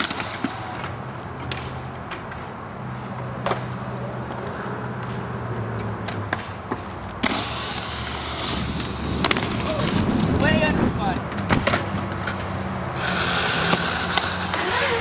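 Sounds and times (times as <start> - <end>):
skate wheels rolling on concrete: 0.0 - 15.0.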